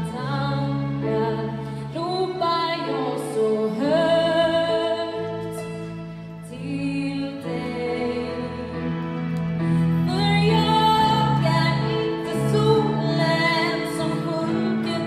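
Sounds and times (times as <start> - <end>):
woman singing: 0.0 - 9.1, 10.0 - 15.0
orchestra holding long chords: 0.0 - 15.0.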